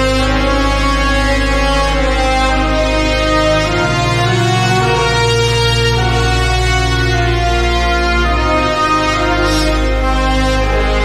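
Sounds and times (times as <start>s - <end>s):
wind band holding chords: 0.0s - 11.0s.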